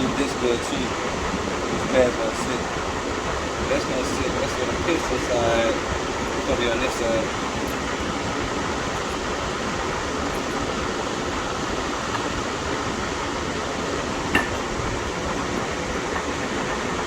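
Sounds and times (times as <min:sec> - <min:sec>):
fan-like background noise: 0:00.0 - 0:17.0.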